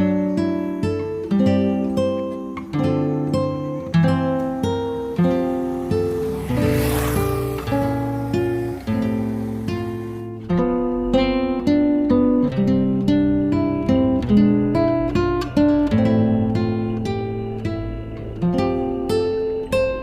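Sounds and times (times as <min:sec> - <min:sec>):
acoustic guitar picking melody: 0:00.0 - 0:20.0.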